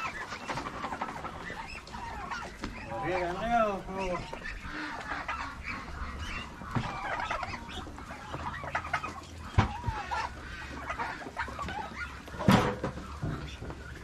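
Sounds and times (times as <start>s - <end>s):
poultry clucking and calling: 0.0s - 14.0s.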